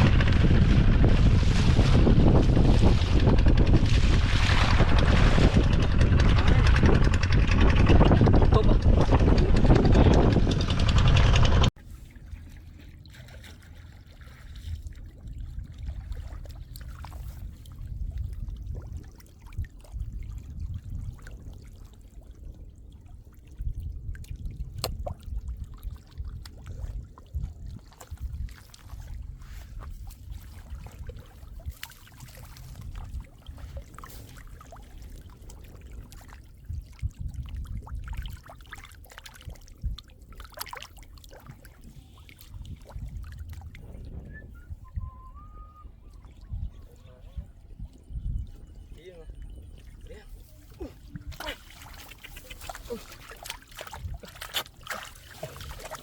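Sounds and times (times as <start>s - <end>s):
floodwater sloshing and splashing: 0.0s - 56.0s.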